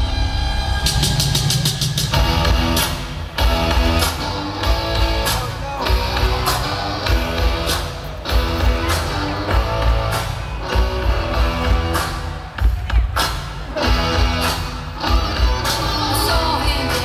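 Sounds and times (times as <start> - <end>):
deep bass line: 0.0 - 17.0
loud music with heavy beat: 0.0 - 17.0.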